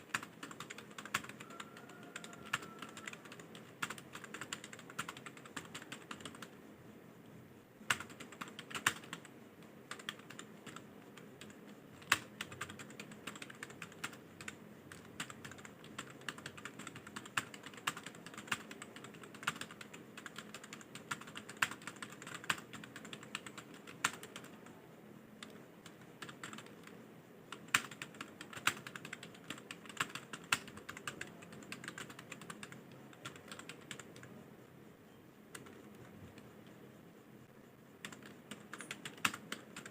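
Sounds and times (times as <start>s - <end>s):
computer keyboard typing: 0.0s - 6.6s, 7.8s - 24.8s, 25.4s - 34.4s, 35.5s - 36.8s, 38.0s - 39.9s.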